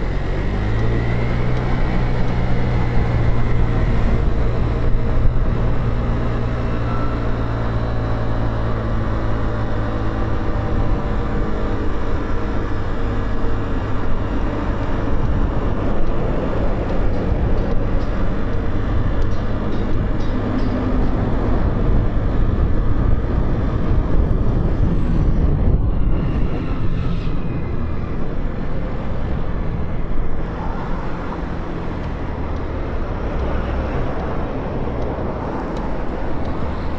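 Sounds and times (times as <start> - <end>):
road noise: 0.0 - 36.9.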